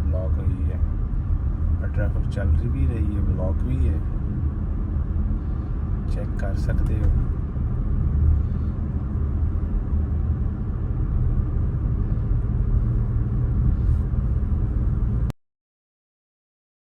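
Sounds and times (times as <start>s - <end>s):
vehicle engine and tyres rumbling: 0.0s - 15.3s.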